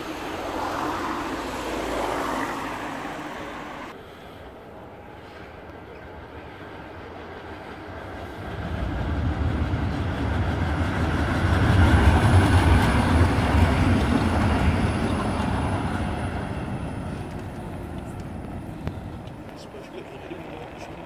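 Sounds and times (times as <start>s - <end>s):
tram passing on rails: 0.0s - 21.0s.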